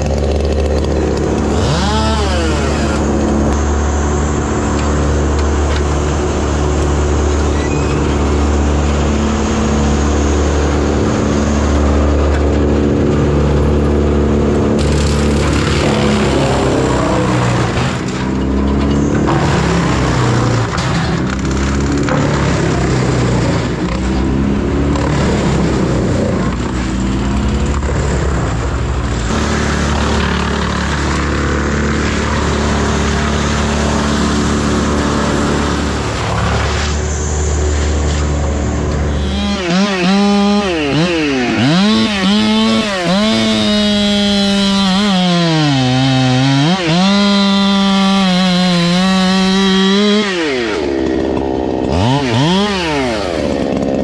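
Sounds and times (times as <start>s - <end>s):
excavator diesel engine under load: 0.0s - 54.0s.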